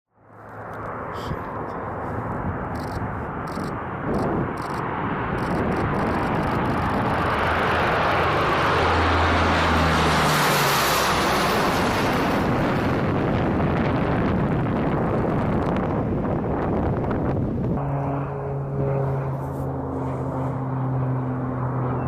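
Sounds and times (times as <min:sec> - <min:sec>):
propeller aircraft passing by: 0:00.2 - 0:22.0.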